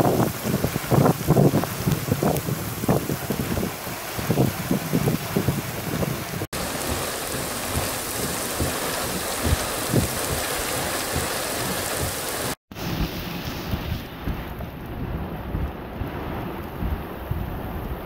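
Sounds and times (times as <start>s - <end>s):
heavy rain on puddles: 0.0s - 18.0s.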